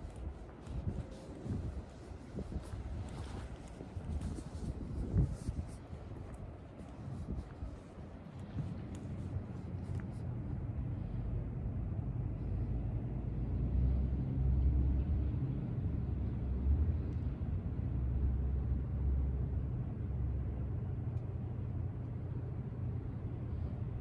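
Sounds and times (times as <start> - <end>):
city waterfront rumble: 0.0 - 24.0.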